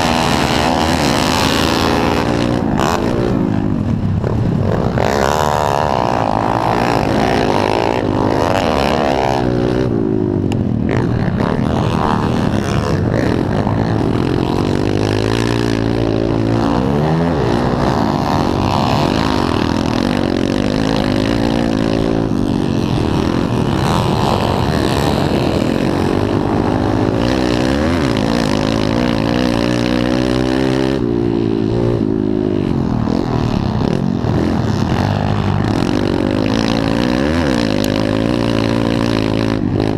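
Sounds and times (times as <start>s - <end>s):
pit bike engines racing: 0.0s - 39.9s.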